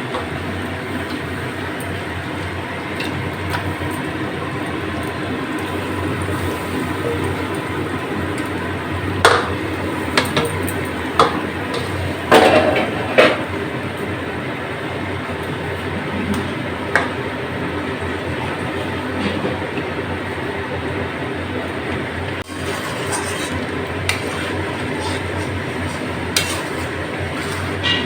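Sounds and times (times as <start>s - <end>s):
gravy sizzling in hot oil: 0.0s - 28.0s.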